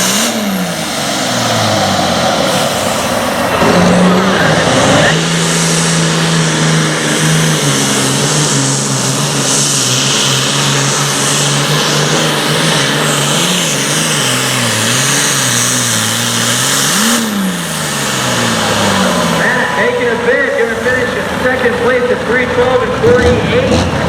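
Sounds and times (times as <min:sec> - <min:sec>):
tractor diesel engine running flat out: 0:00.0 - 0:24.0.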